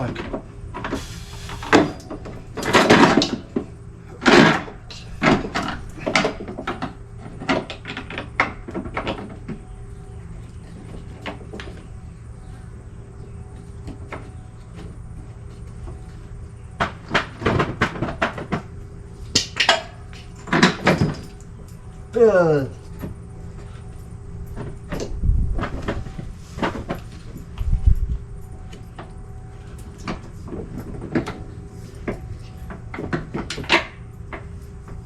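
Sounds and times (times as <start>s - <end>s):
lawnmower parts knocking and clunking: 0.0s - 12.6s, 13.5s - 22.2s, 24.4s - 27.8s, 28.5s - 35.0s.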